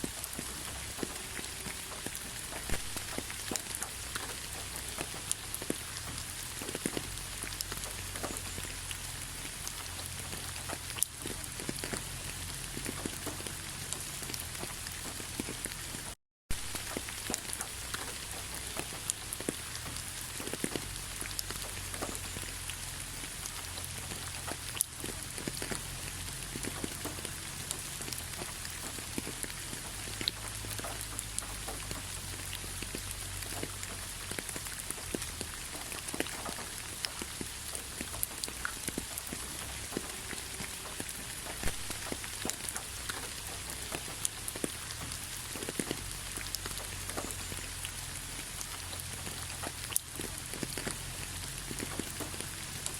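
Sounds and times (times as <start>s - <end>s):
light rain hissing: 0.0s - 52.9s
raindrops pattering on a surface: 0.0s - 52.9s.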